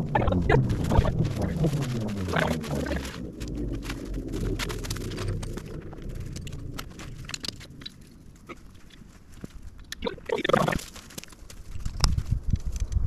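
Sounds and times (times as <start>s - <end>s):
low rumble: 0.0s - 10.8s
dry pine straw and leaves rustling: 0.0s - 12.8s.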